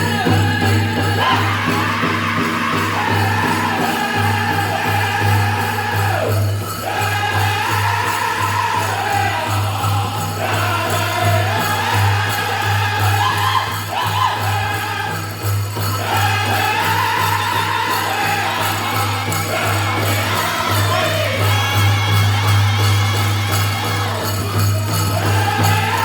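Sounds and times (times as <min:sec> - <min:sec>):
group singing in high voices: 0:00.0 - 0:26.0
jingling bells: 0:00.0 - 0:26.0.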